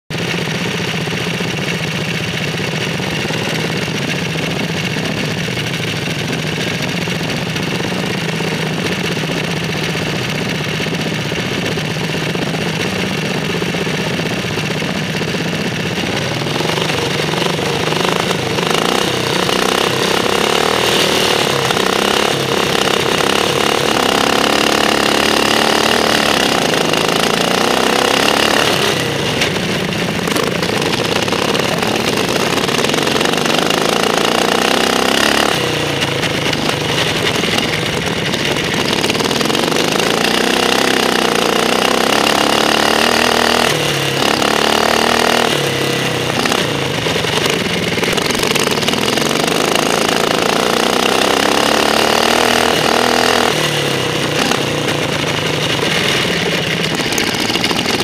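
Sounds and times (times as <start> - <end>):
ride-on lawn mower engines: 0.1 - 58.0.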